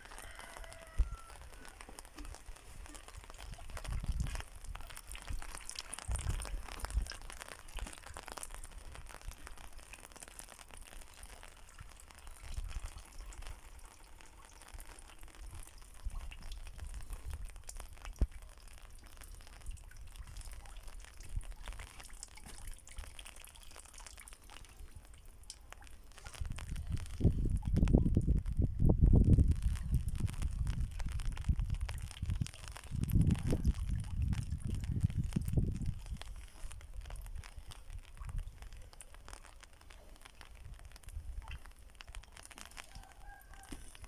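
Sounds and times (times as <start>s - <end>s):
rain pattering and dripping: 0.0s - 44.0s.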